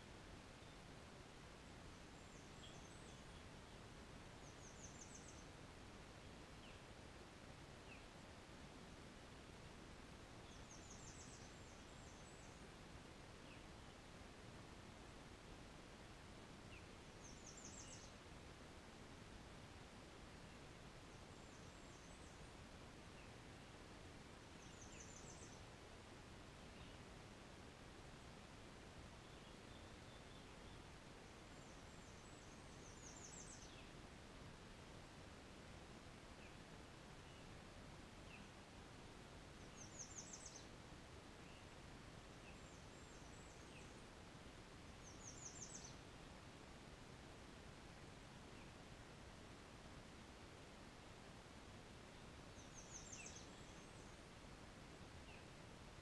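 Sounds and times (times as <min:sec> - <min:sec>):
steady background hiss: 0:00.0 - 0:56.0
distant small birds chirping: 0:00.2 - 0:56.0.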